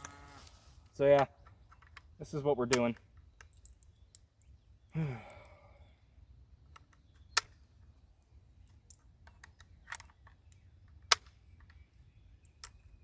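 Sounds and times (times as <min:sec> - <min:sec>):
metallic clicks of cartridges: 0:00.0 - 0:05.6, 0:06.7 - 0:08.0, 0:08.6 - 0:13.0.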